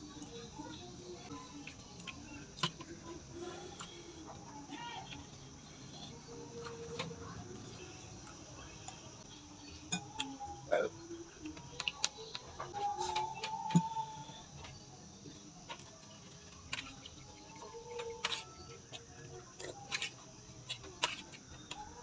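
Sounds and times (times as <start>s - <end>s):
chewing and crunching: 0.0s - 22.0s.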